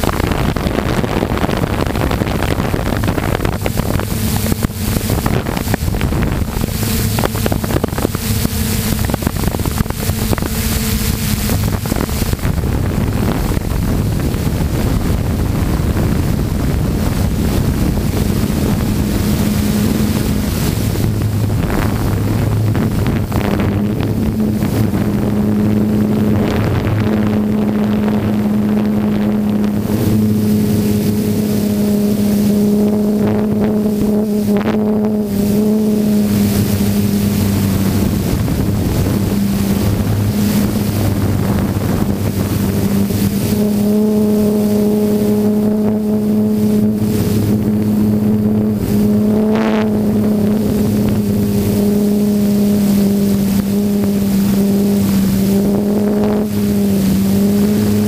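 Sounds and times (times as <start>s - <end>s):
propellers droning: 0.0s - 58.0s
wind noise on microphone: 0.0s - 58.0s.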